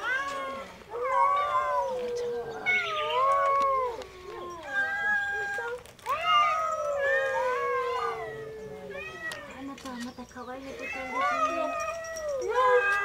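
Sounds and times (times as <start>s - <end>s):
cat meowing: 0.0s - 9.6s, 10.8s - 13.0s.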